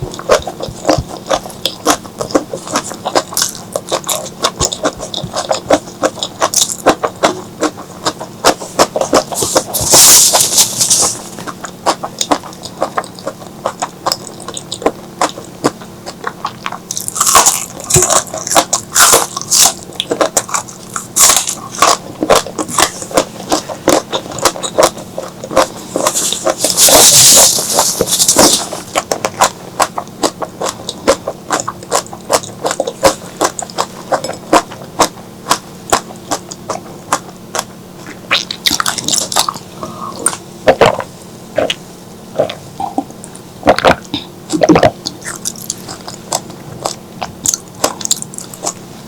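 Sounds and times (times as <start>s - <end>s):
person chewing wetly: 0.0s - 49.0s.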